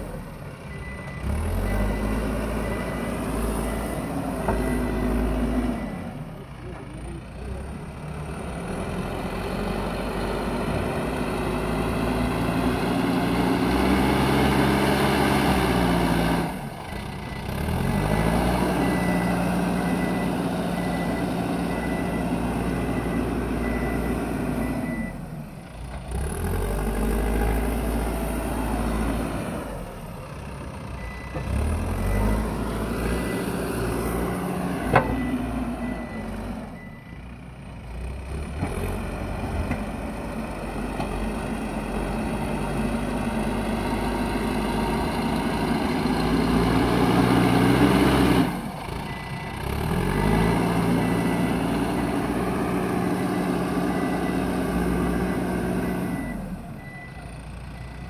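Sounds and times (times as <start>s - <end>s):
diesel engine working hard: 0.0s - 58.0s.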